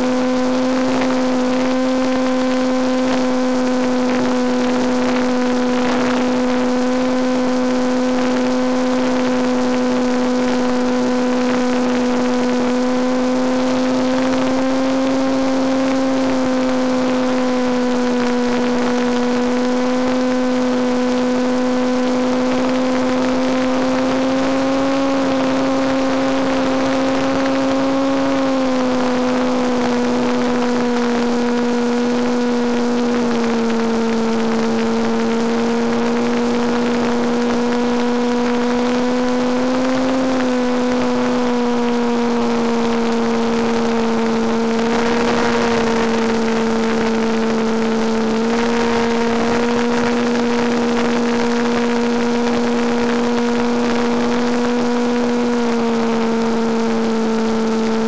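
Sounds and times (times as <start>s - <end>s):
model airplane motor droning: 0.0s - 58.0s.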